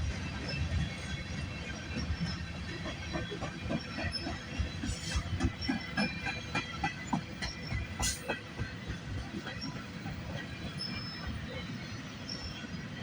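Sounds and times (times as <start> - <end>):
freight train rumble: 0.0 - 13.0.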